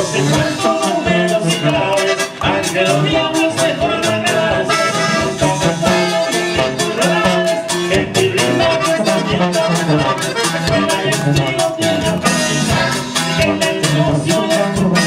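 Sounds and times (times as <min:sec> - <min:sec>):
live band with accordion: 0:00.0 - 0:15.0.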